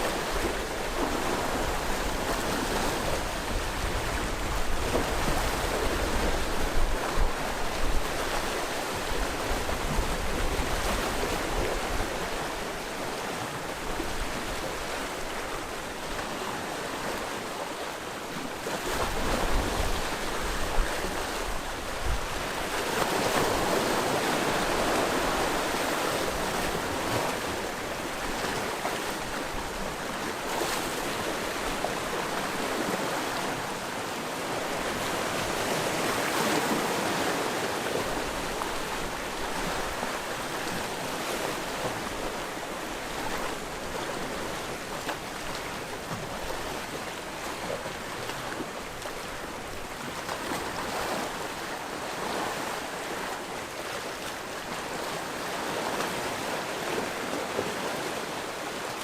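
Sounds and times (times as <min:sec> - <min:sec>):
waves washing on rocky shore: 0:00.0 - 0:59.0.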